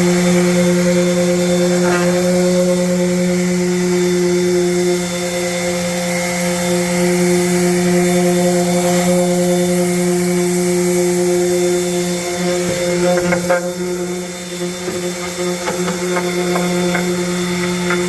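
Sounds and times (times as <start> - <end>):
palm sander running: 0.0 - 18.0.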